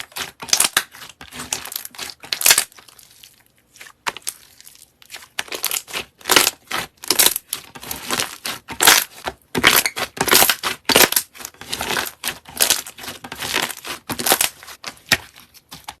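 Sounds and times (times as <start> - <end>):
slime squelching and popping: 0.1 - 16.0.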